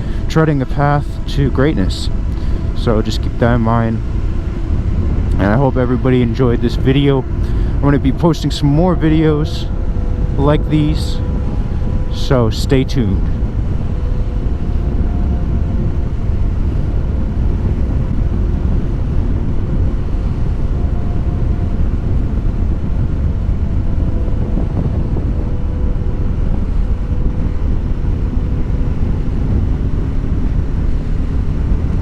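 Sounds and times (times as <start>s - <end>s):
motorcycle engine drone: 0.0s - 32.0s
wind buffeting microphone: 0.0s - 32.0s.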